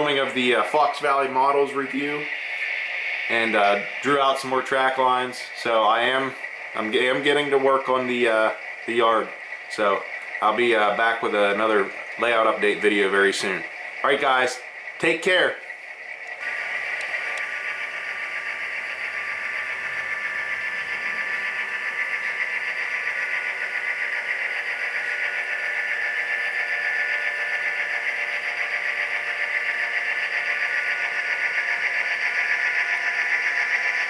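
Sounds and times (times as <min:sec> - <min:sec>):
diesel engine sound from small speaker: 0:00.0 - 0:34.0.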